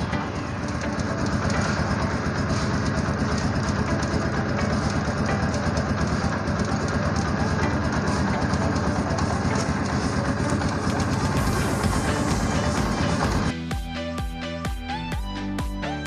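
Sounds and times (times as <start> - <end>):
motorcycle engine idling: 0.0 - 13.5.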